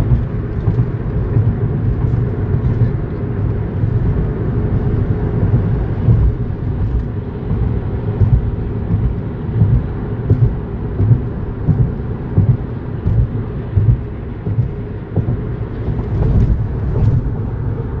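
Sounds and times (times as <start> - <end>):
low thumps: 0.0 - 3.1, 3.9 - 17.6
car cabin road rumble: 0.0 - 18.0.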